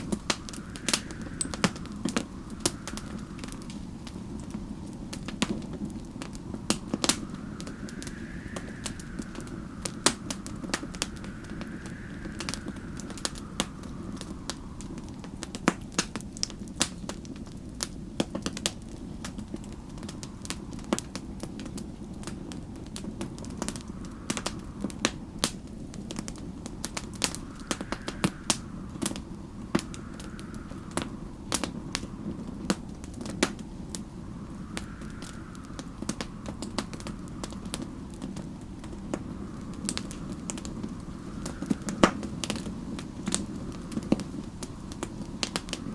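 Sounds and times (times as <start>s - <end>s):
low rumble: 0.0s - 45.9s
wind whistling: 0.0s - 45.9s
wood fire crackling and popping: 0.0s - 45.9s.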